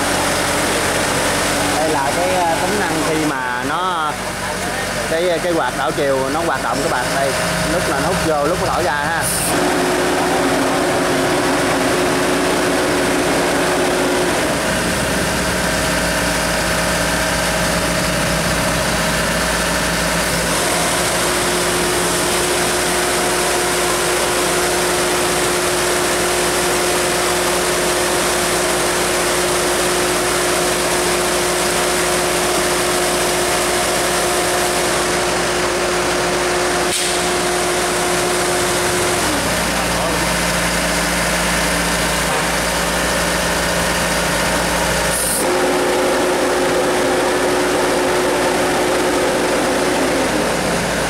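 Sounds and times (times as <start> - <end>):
diesel engine running: 0.0 - 51.0
radiator fan rushing air: 0.0 - 51.0.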